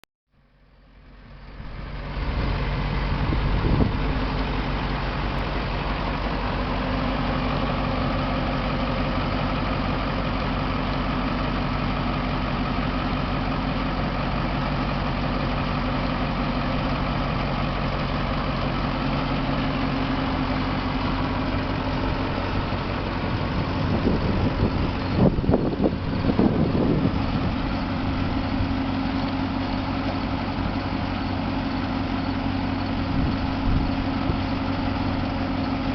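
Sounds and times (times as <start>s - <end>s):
truck engine idling: 0.3s - 35.9s.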